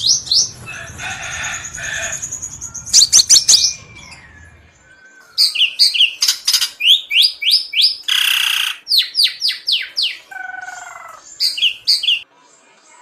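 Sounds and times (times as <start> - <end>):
bird high chirps: 0.0 - 12.2.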